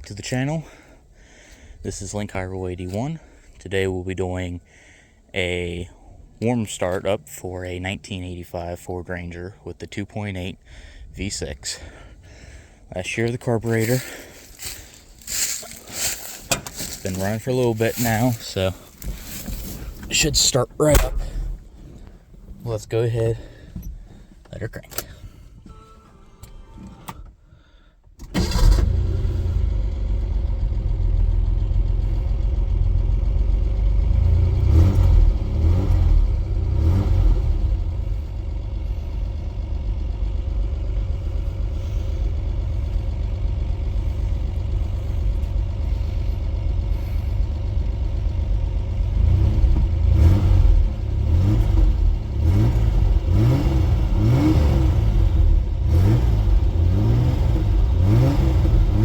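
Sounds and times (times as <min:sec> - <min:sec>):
car engine starting and running: 0:00.0 - 0:59.0.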